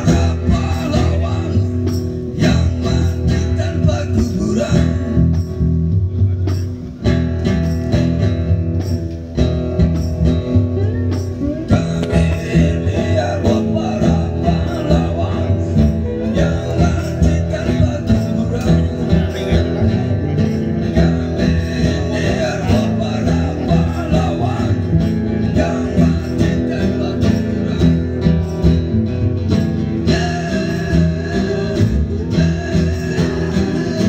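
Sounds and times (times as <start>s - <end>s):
electric bass: 0.0s - 34.0s
guitars strummed and picked: 0.0s - 34.0s.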